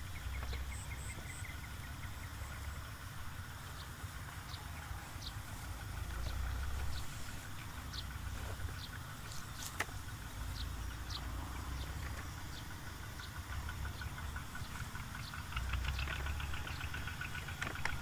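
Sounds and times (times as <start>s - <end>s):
rapid ticking chatter: 0.0s - 18.0s.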